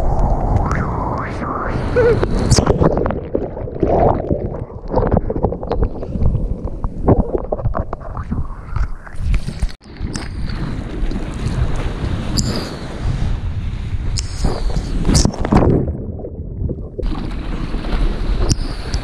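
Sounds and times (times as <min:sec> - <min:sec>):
sea water splashing: 0:00.0 - 0:19.0
wind buffeting microphone: 0:00.0 - 0:19.0.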